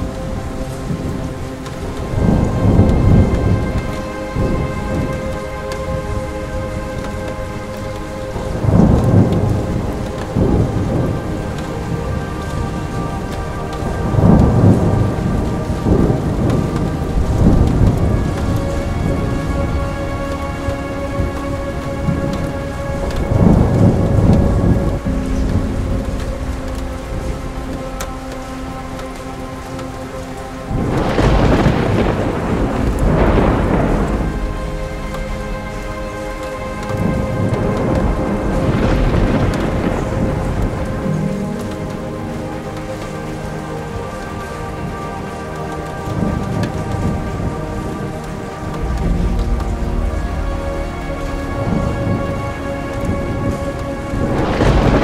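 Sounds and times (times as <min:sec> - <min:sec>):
thunder rolling: 0:00.0 - 0:05.2, 0:08.4 - 0:27.9, 0:30.6 - 0:42.3, 0:46.1 - 0:55.0
steady rain: 0:00.0 - 0:55.0.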